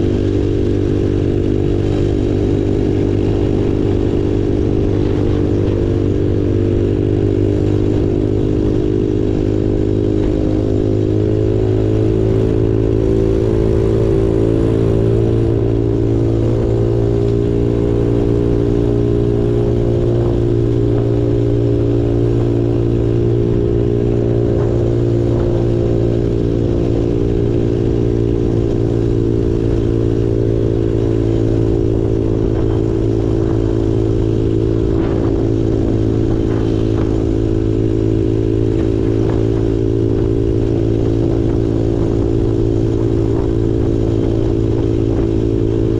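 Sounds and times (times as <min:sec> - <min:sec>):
small off-road engine running: 0:00.0 - 0:45.9.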